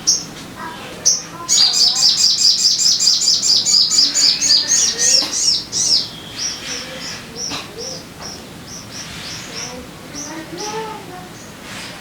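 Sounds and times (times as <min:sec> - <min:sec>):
bird singing high chirps: 0:01.0 - 0:10.8.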